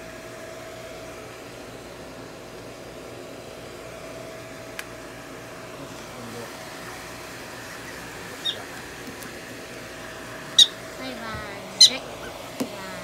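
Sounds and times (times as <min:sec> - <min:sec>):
hair dryer blowing with motor whine: 0:00.0 - 0:13.0.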